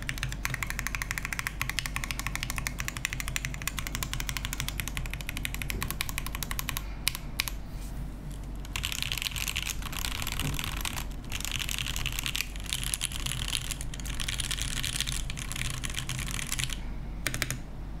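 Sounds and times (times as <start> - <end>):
mechanical keyboard typing: 0.0 - 7.6, 8.3 - 17.6.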